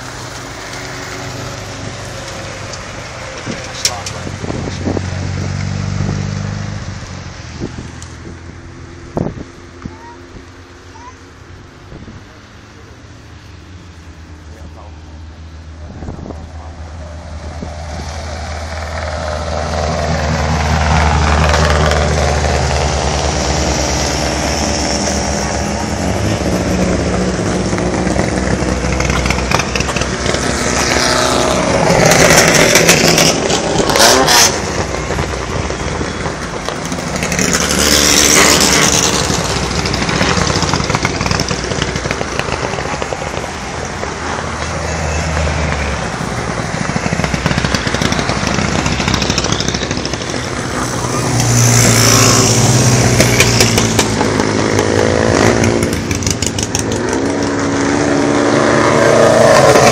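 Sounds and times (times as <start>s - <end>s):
race cars passing at full throttle: 0.0s - 59.9s.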